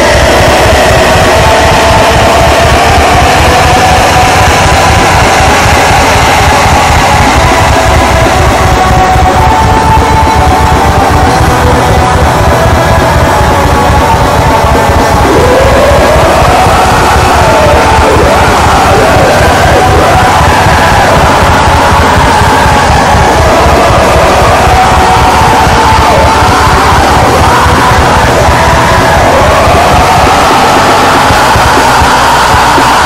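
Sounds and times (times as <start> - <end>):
distorted metal band playing: 0.0 - 33.0
harsh yelled vocals: 0.0 - 33.0.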